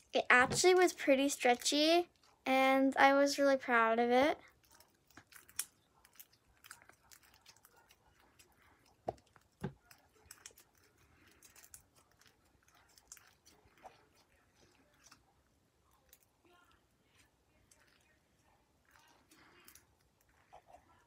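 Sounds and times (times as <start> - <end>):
slime squelching: 3.9 - 21.0.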